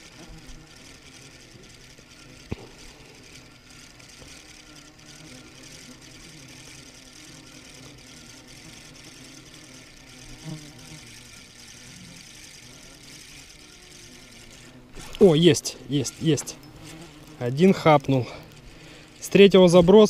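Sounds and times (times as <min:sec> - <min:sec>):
fishing reel whirring: 0:00.0 - 0:20.0.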